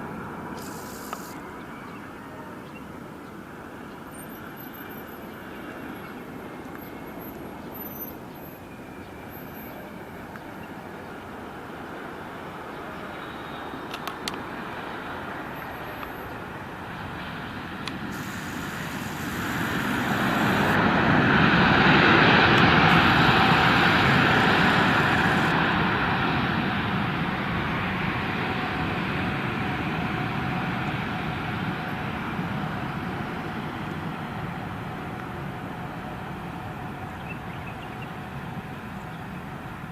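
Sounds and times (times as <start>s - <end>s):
jet airliner passing low: 0.0s - 39.9s.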